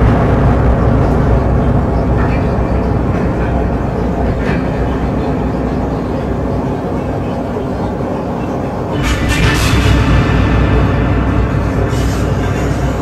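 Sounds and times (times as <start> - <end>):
dense rumble with deep drone: 0.0 - 13.0.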